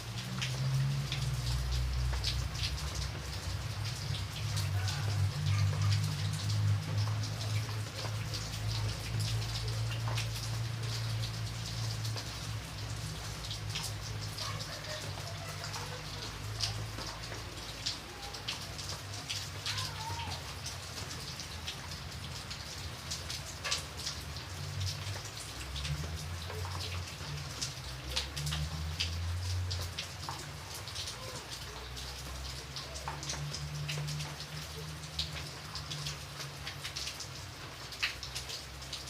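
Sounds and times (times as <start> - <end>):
rain hiss: 0.0 - 39.0
raindrops hitting: 0.0 - 39.0.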